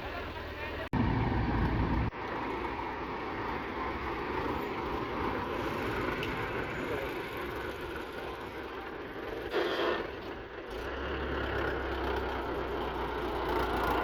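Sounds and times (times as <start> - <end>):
heavy machinery diesel engines: 0.0 - 14.0.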